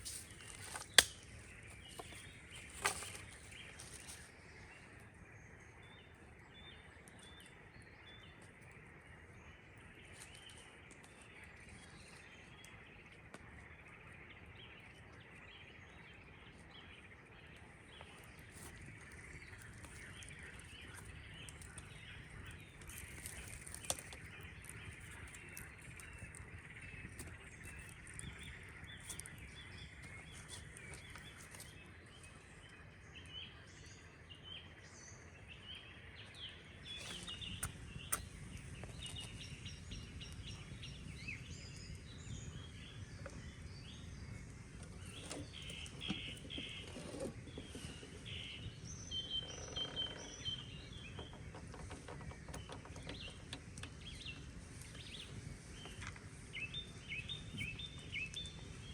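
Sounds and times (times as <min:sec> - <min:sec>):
outdoor background hush: 0:00.0 - 0:58.9
small birds chirping: 0:00.0 - 0:58.9.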